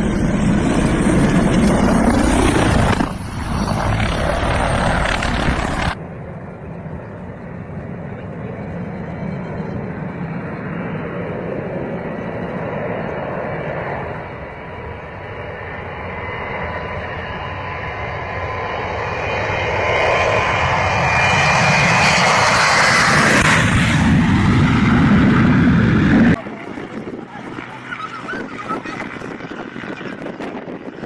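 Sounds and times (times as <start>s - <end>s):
aircraft engine rushing: 0.0s - 31.0s.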